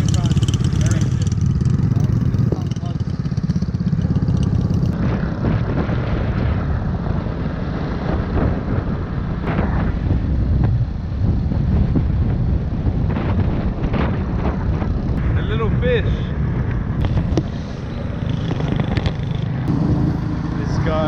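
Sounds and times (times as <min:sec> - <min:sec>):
vehicle engine running: 0:00.0 - 0:15.4, 0:16.4 - 0:21.0
wind buffeting microphone: 0:00.0 - 0:21.0.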